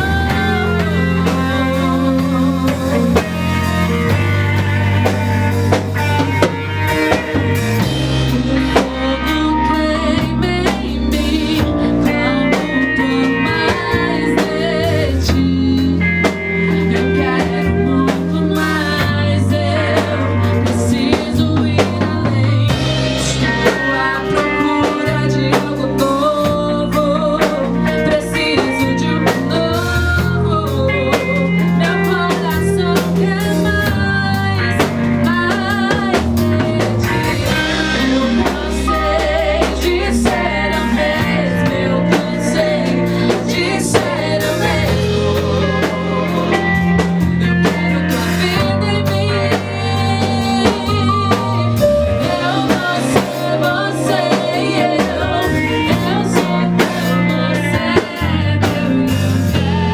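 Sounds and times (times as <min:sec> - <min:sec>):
live band playing worship song: 0:00.0 - 0:59.9
person singing: 0:00.0 - 0:59.9.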